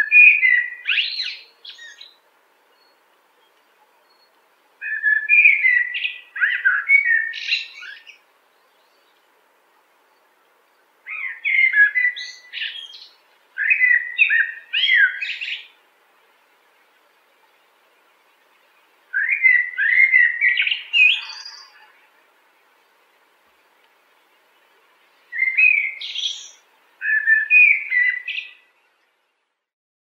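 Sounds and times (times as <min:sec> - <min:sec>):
songbird warbling song: 0:00.0 - 0:29.5.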